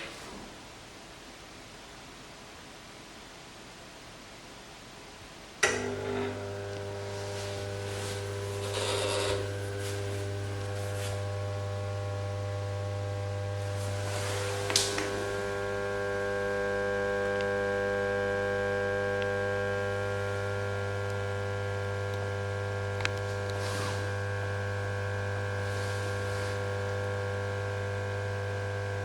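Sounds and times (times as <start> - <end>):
lamp ballast electrical hum: 0.0 - 29.0.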